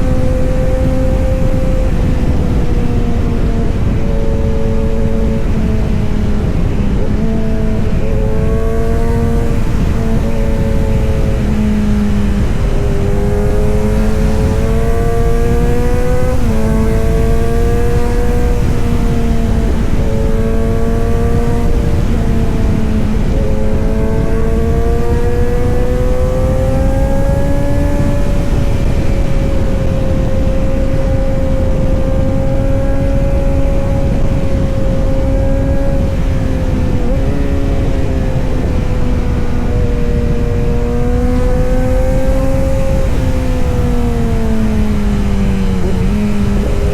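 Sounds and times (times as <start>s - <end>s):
motorcycle exhaust running: 0.0s - 46.9s.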